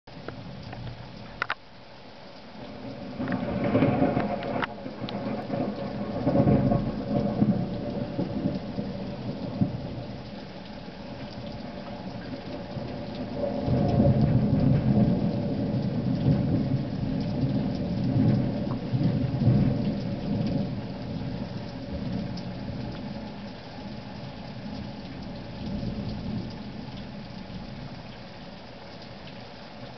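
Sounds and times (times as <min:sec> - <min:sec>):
steady rain: 0:00.1 - 0:29.9
thunder rumbling: 0:02.6 - 0:28.2.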